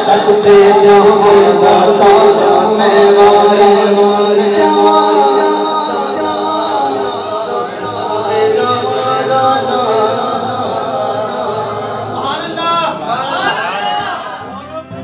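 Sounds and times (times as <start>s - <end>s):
man singing into a microphone: 0.0s - 12.4s.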